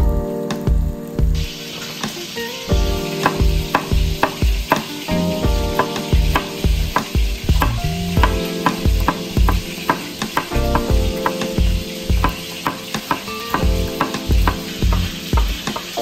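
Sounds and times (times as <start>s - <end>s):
background music with beat: 0.0s - 16.0s
steady hiss: 0.3s - 16.0s.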